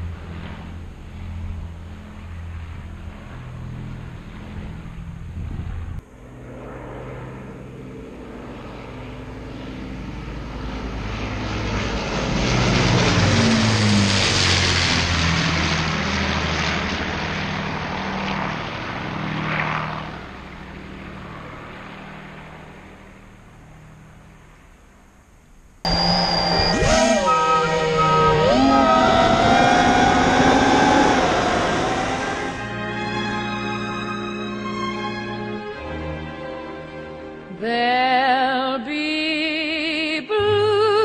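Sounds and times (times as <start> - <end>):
propeller plane engines droning overhead: 0.0 - 41.0.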